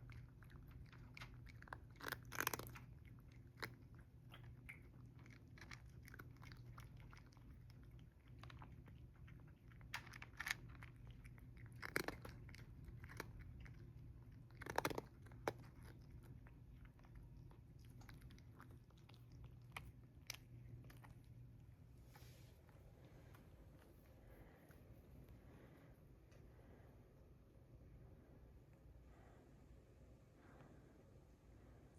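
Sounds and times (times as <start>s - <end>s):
cats crunching food: 0.0s - 25.7s.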